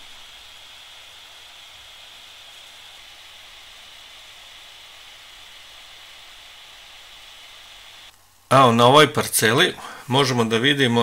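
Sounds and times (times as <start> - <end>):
faint low mains hum: 0.0 - 11.0
microphone hiss: 0.0 - 11.0.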